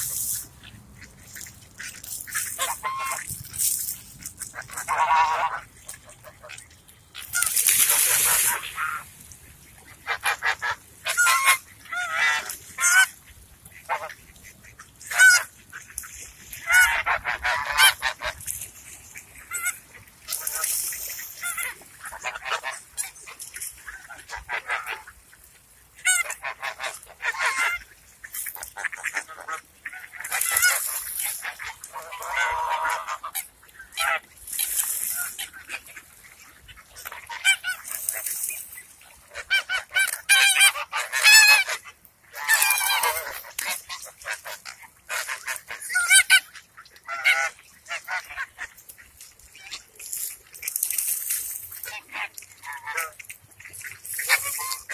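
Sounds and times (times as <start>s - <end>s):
geese honking: 1.3s - 3.3s, 4.4s - 6.6s, 9.7s - 13.2s, 13.8s - 18.5s, 19.1s - 25.4s, 26.0s - 48.9s, 51.8s - 54.9s.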